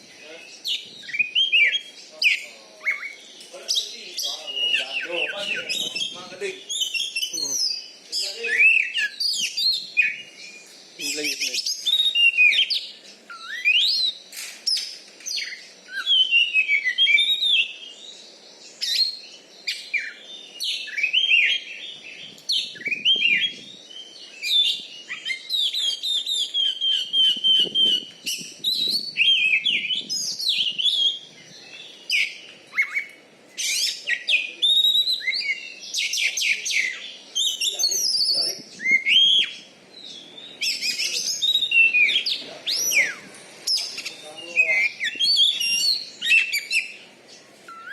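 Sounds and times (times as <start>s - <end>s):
songbird whistles chirps and trills: 0.0s - 47.9s.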